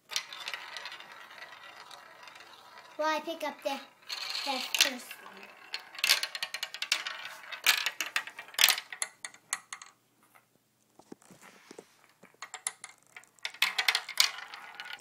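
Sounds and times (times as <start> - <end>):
marbles rolling and clacking: 0.0 - 10.4, 11.0 - 15.0.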